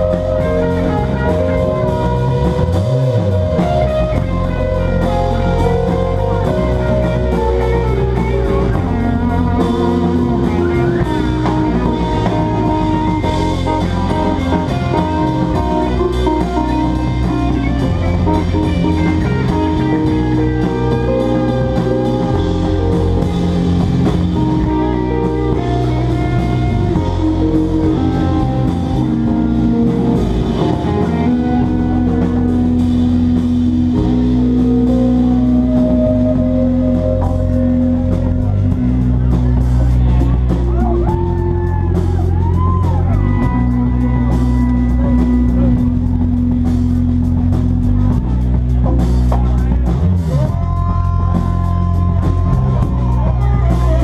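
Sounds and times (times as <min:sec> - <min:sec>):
drum kit: 0:00.0 - 0:54.0
electric guitar: 0:00.0 - 0:54.0
horn: 0:00.0 - 0:54.0
keyboard: 0:00.0 - 0:54.0.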